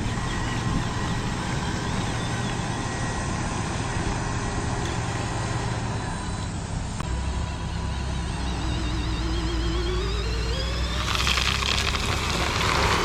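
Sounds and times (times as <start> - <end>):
mechanical hum of toy models: 0.0 - 13.0.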